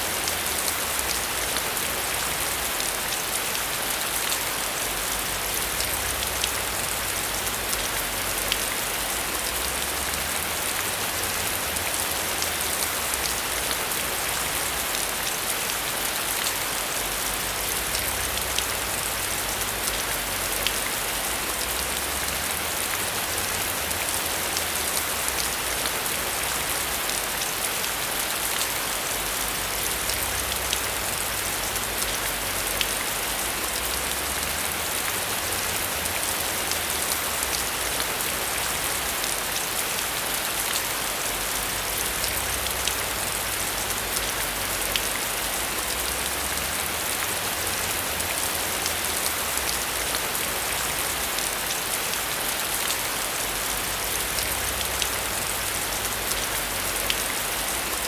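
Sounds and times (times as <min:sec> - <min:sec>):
heavy rain hiss: 0:00.0 - 0:58.0.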